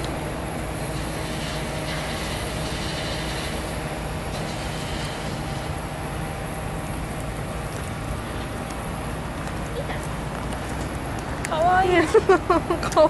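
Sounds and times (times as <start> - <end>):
faint hum: 0.0 - 13.0
steady low rumble: 0.0 - 13.0.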